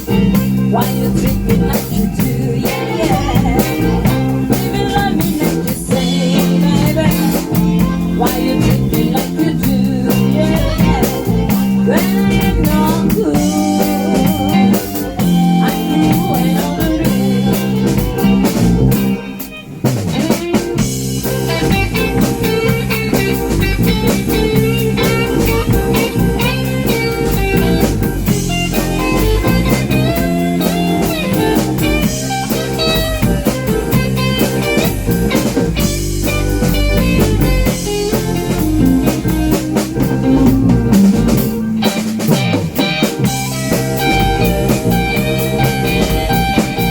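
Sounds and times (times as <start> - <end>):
bass: 0.0 - 46.9
drum kit steady beat: 0.0 - 46.9
lead guitar soloing: 0.0 - 46.9.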